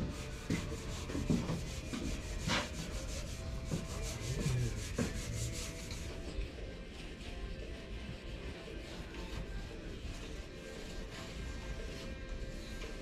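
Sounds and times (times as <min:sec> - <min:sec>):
sanding pad scrubbing steel: 0:00.0 - 0:06.2, 0:07.0 - 0:13.0.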